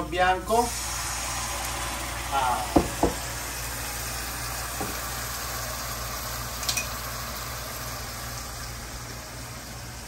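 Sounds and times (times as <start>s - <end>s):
vegetables sizzling in frying pan: 0.4s - 10.0s.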